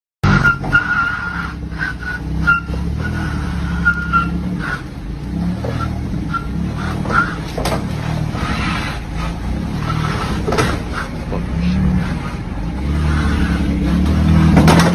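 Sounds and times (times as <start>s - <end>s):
vehicle engine running: 0.2s - 14.9s.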